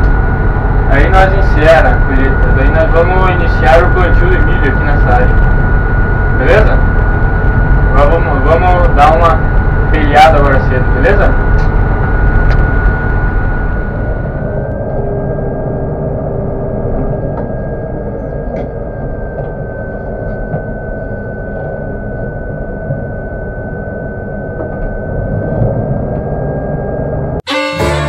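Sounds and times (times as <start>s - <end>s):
combine harvester engine drone: 0.0s - 27.9s
steady high whine: 0.0s - 28.0s.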